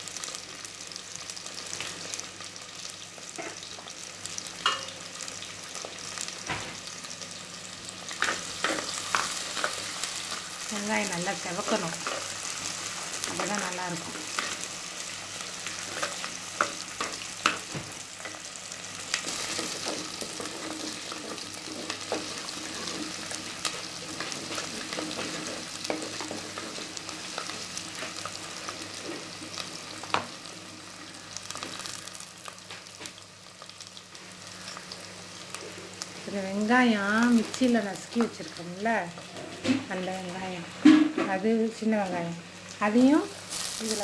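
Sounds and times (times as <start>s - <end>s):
shallots sizzling in hot oil: 0.0s - 44.0s.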